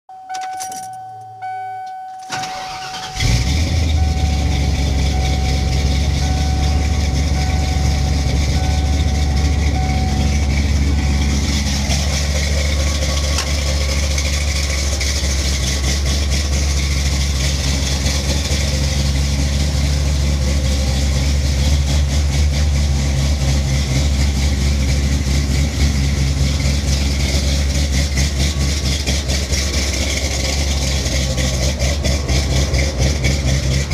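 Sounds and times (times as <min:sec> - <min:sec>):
engine cranking: 0:02.2 - 0:33.9
engine idling: 0:02.3 - 0:33.9.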